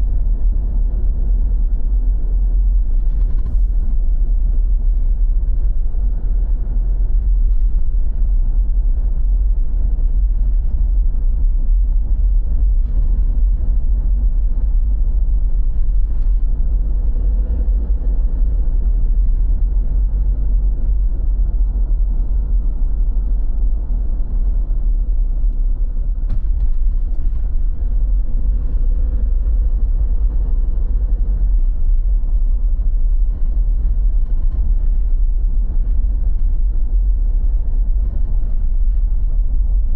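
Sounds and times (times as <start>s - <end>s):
faint engine hum: 0.0s - 39.9s
road vehicle rumble: 0.0s - 39.9s.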